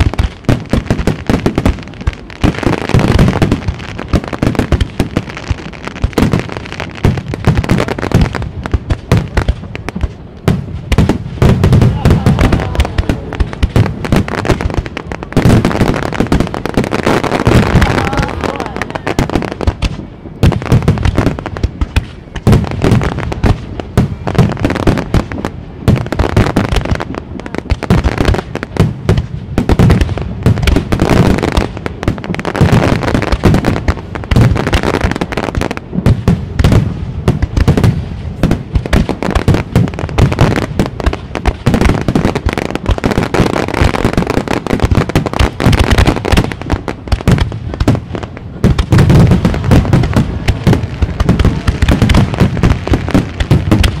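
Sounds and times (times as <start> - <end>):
firework crackling: 0.0 - 54.0
firework shells booming: 0.0 - 54.0.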